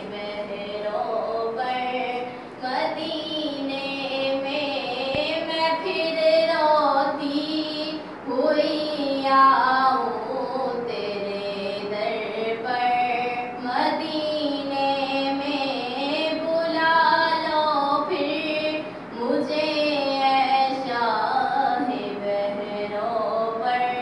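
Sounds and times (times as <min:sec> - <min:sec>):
woman singing devotional song: 0:00.0 - 0:24.0.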